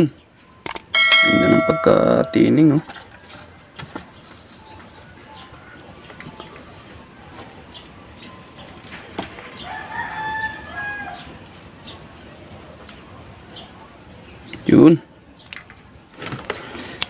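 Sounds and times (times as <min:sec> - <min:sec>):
birds chirping: 0:00.0 - 0:16.1.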